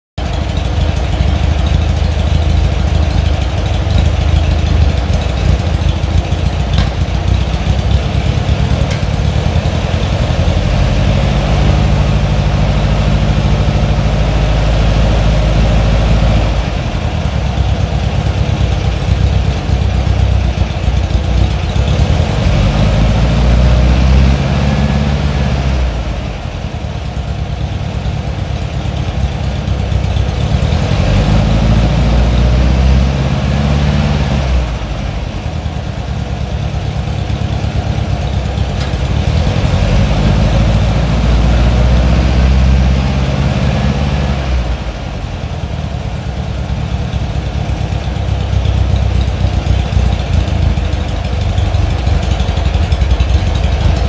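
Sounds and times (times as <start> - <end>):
engine running through exhaust: 0.2 - 54.0.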